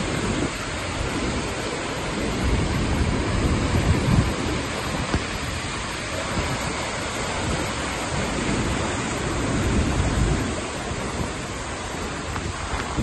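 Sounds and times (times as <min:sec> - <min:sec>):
waterfall roaring: 0:00.0 - 0:13.0
wind gusting on microphone: 0:00.0 - 0:13.0.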